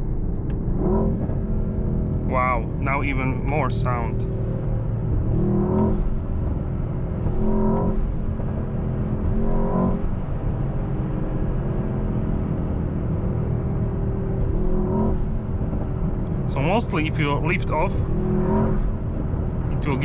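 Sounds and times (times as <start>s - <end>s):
car engine under load: 0.0s - 20.0s.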